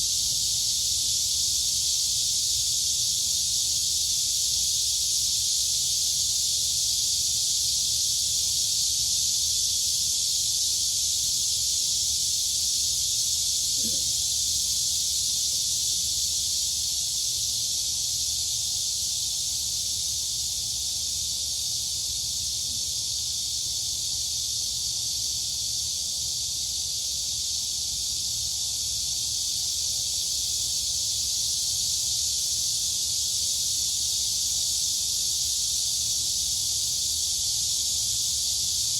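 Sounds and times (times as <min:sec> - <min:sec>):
crickets and cicadas chorus: 0:00.0 - 0:38.9.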